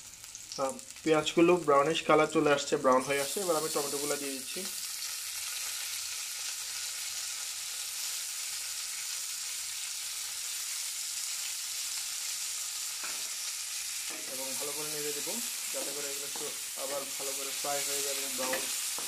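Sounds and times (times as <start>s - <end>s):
vegetables sizzling in frying pan: 0.0s - 1.9s, 2.9s - 19.0s.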